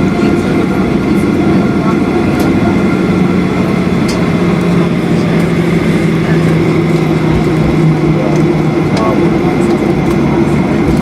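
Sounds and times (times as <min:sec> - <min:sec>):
jet engines roaring in cabin: 0:00.0 - 0:11.0
low hum: 0:00.0 - 0:11.0.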